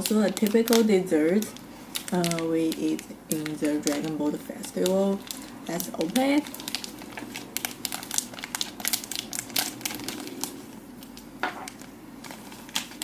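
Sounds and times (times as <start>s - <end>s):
wrapper crinkling as torn open: 0.0s - 13.0s.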